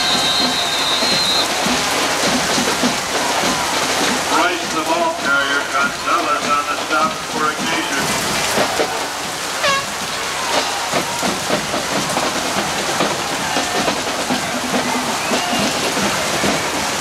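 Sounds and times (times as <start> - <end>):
football crowd hubbub: 0.0 - 17.0.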